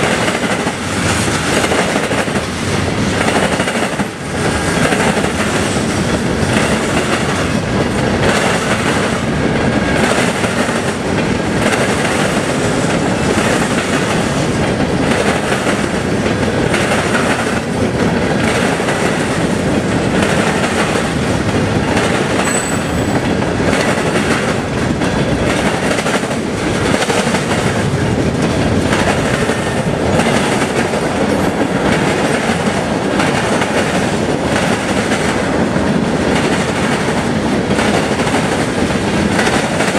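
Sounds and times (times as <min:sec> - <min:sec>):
train rumble: 0:00.0 - 0:39.9
train wheels clacking over rail joints: 0:00.0 - 0:39.9.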